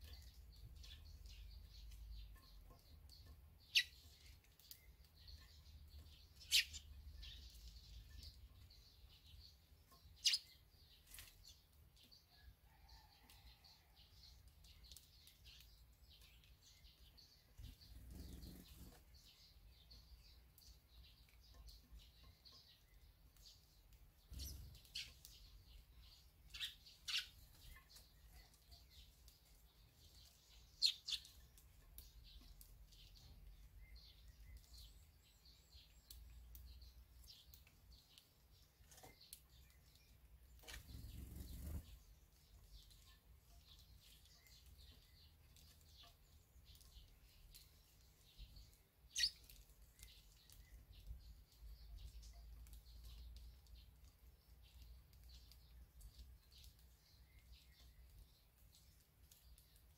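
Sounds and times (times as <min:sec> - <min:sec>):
bird chirps: 0:00.0 - 0:11.6, 0:14.7 - 0:59.9.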